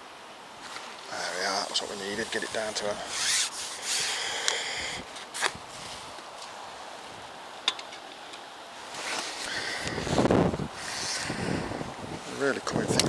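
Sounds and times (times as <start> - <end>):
wind hissing: 0.0 - 7.6, 8.4 - 13.0.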